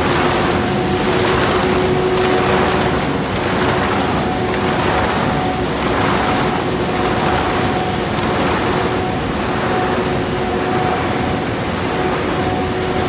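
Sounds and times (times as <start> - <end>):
machine whining tones: 0.0 - 13.0
printing machine din: 0.0 - 13.0
rhythmic machine swishing: 0.0 - 13.0.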